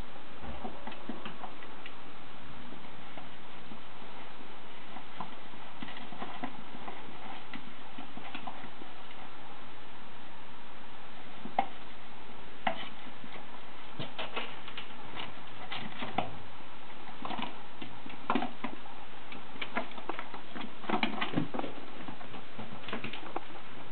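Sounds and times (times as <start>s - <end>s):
steady background hiss: 0.0s - 23.9s.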